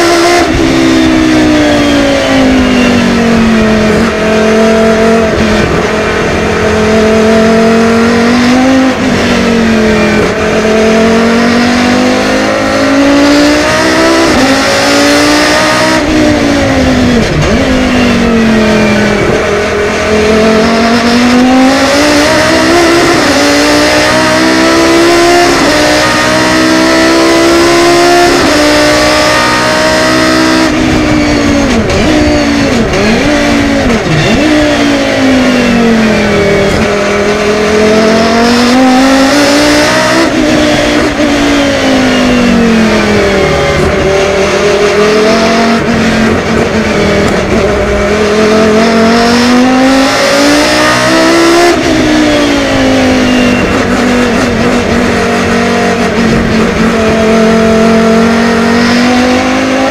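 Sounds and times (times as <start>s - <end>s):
gear changes: 0.0s - 59.9s
race car engine revving: 0.0s - 59.9s.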